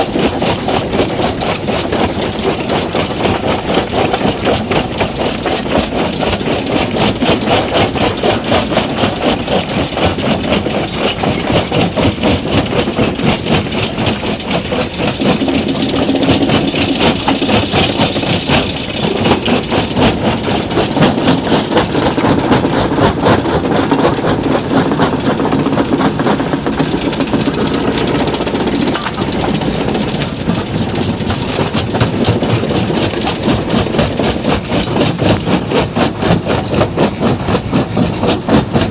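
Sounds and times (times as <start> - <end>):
stone crusher machine running: 0.0 - 38.9.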